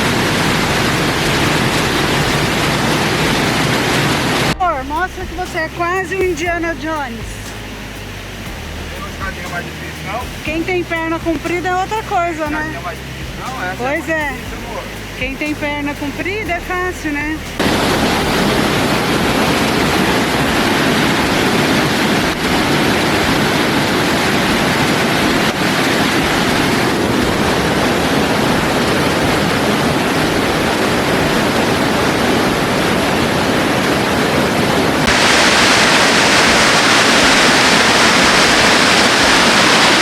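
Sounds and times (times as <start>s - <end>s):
stream water rushing over falls: 0.0s - 40.0s.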